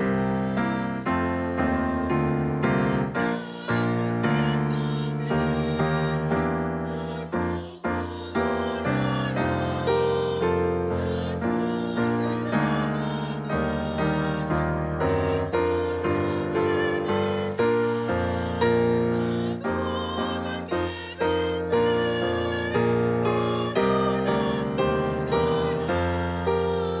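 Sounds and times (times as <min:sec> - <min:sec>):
slow piano piece: 0:00.0 - 0:27.0.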